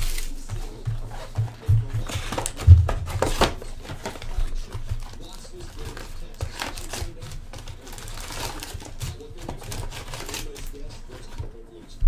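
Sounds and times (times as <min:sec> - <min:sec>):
card wrappers rustling and crinkling: 0:00.0 - 0:12.0.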